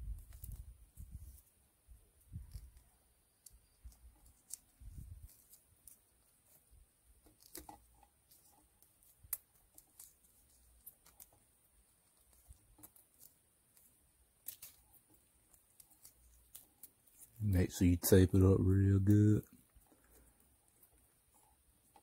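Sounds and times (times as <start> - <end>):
electrical tape crackling: 0.0 - 22.0.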